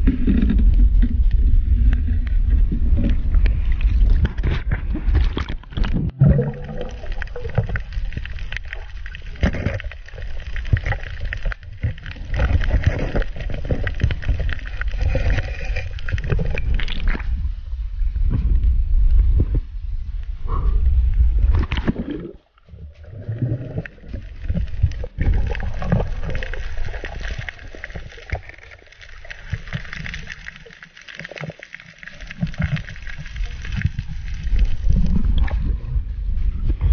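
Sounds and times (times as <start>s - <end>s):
water gurgling and splashing: 0.0s - 17.5s, 21.4s - 36.9s.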